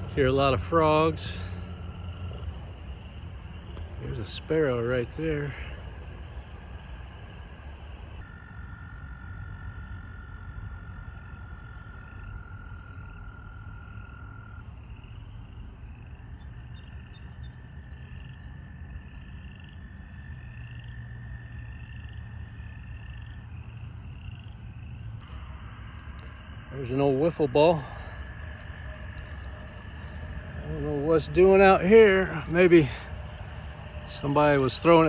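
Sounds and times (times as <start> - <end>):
frogs trilling: 0.0 - 35.0.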